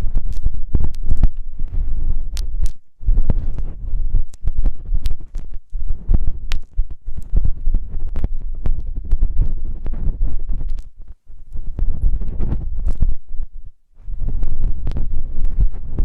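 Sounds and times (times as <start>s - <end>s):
sharp crackling clicks: 0.0s - 13.2s, 14.3s - 16.0s
muffled thuds rubbing microphone: 0.0s - 16.0s.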